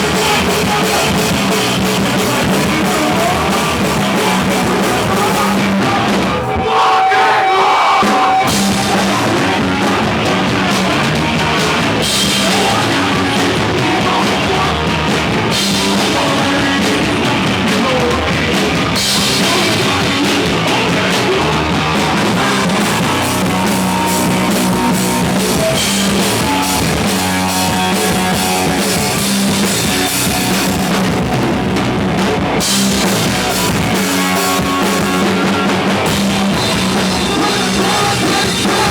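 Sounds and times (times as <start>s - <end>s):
shouted vocals: 0.0s - 29.2s, 33.8s - 38.9s
distorted guitars: 0.0s - 38.9s
pounding drum kit: 0.0s - 38.9s
punk band playing live: 0.0s - 38.9s.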